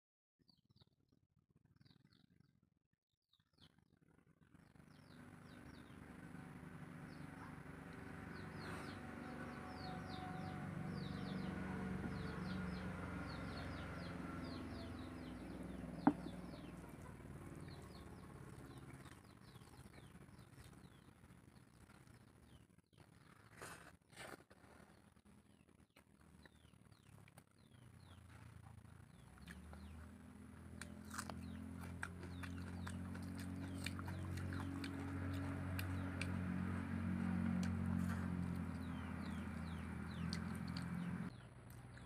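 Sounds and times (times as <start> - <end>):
birds chirping: 4.9 - 23.5, 24.9 - 42.0.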